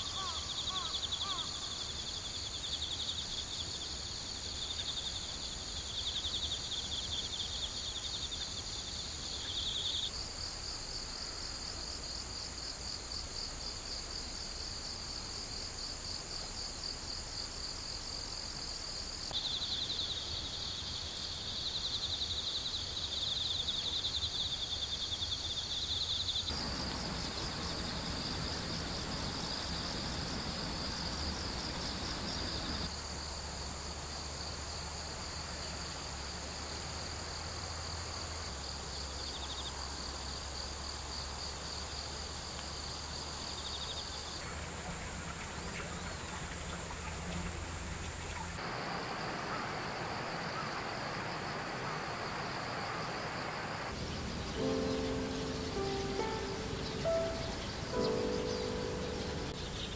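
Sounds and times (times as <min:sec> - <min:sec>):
crickets and insects trilling: 0:00.0 - 0:59.9.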